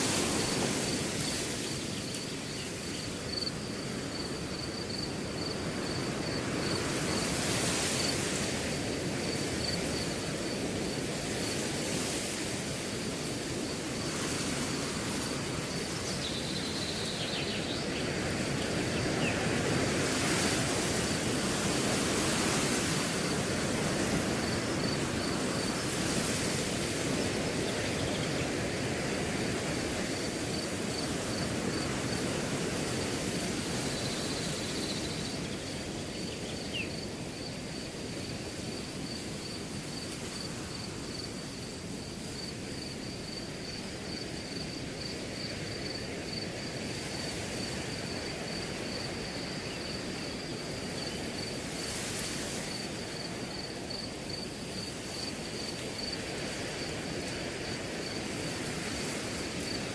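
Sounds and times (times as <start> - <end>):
crickets chirping: 0.0 - 59.9
wind through grass: 0.0 - 59.9.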